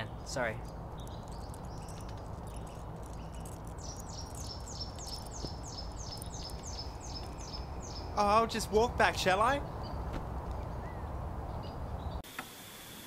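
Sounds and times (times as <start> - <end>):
bird chirping: 0.0 - 12.2
outdoor background hum: 0.0 - 13.0.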